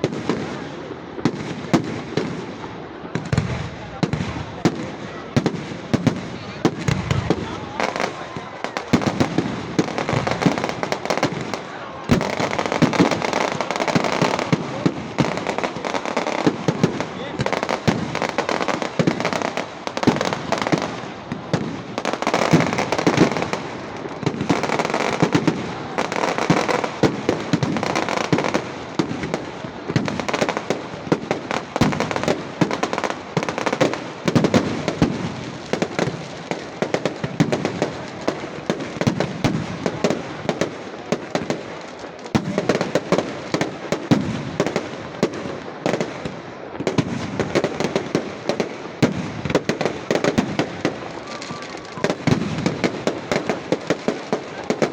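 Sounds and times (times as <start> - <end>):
firecrackers cracking and popping: 0.0 - 54.9.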